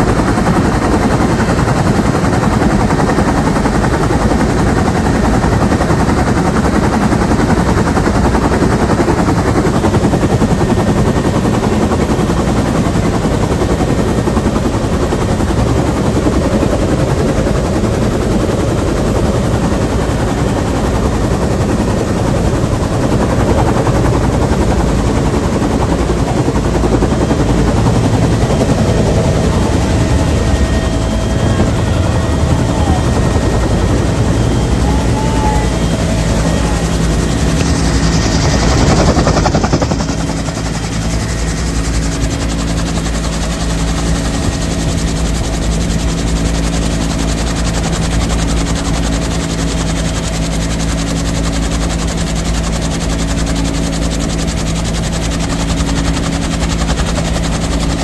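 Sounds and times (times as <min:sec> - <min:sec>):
helicopter rotor beating: 0:00.0 - 0:58.0.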